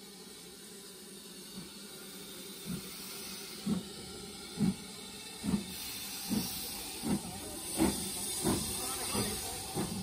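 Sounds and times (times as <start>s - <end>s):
steam hissing: 0.0s - 10.0s
steam locomotive exhaust chuffs: 0.0s - 10.0s.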